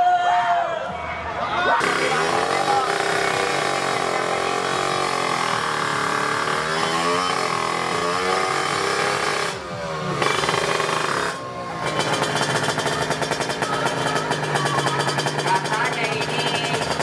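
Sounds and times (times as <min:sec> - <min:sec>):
two-stroke motorcycle engine revving: 0:01.8 - 0:17.0.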